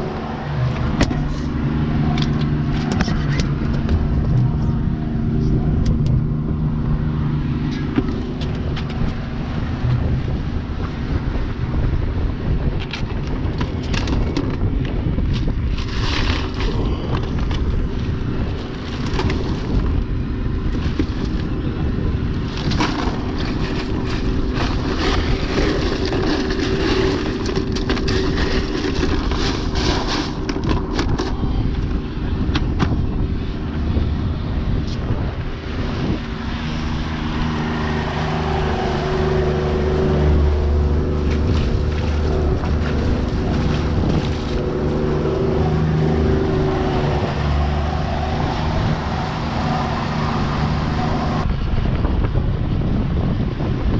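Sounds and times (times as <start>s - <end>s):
outboard motor running: 0.0s - 53.9s
wind buffeting microphone: 0.0s - 53.9s.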